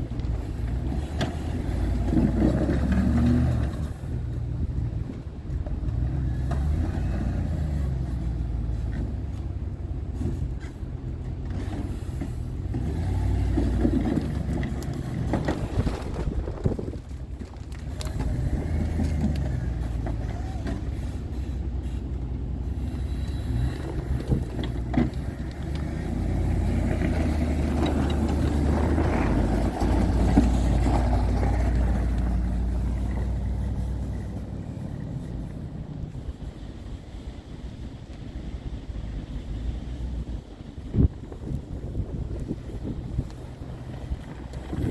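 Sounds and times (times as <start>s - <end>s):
truck engine humming: 0.0s - 44.9s.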